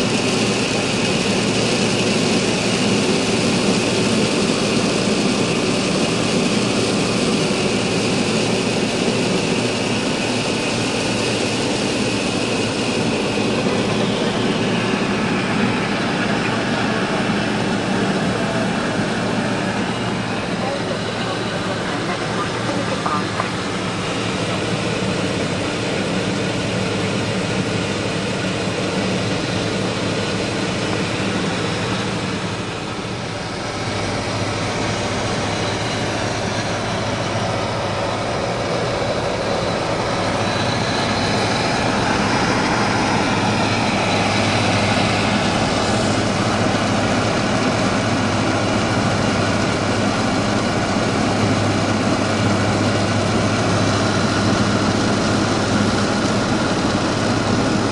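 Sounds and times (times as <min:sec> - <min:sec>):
propeller aircraft engine drone: 0:00.0 - 0:57.9.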